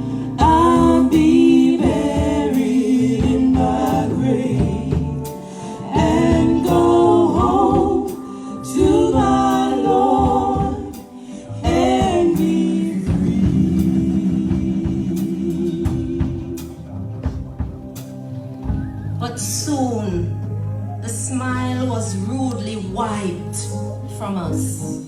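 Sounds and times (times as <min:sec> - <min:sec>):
gospel singing: 0:00.0 - 0:25.0
instrumental accompaniment: 0:00.0 - 0:25.0.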